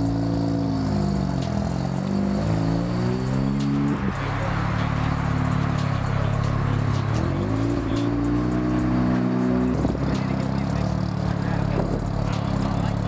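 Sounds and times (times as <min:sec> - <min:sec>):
rotary engine revving: 0:00.0 - 0:13.0.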